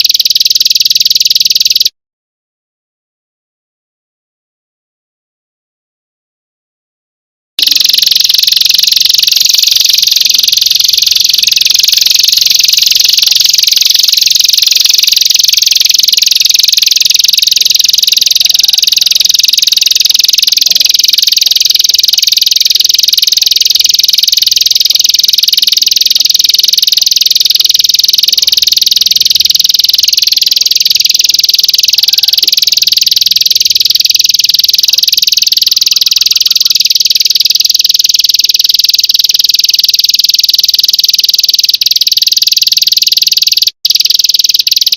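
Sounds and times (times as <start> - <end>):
shrill pulsing trill: 7.6 - 44.9.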